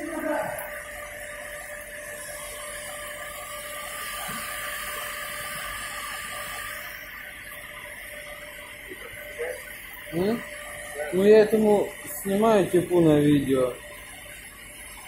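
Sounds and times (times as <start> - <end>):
cotton candy machine motor hum: 0.0 - 15.0.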